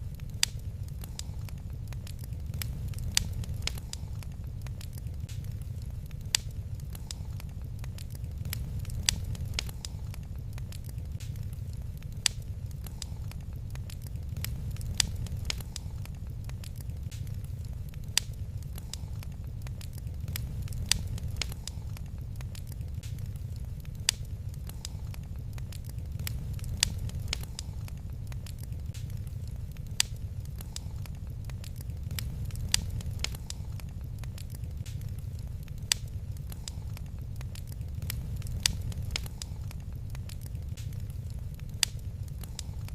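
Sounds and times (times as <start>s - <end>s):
fire pops and snaps: 0.0s - 42.9s
low rumble of fire: 0.0s - 42.9s
wood fire crackling: 0.0s - 42.9s.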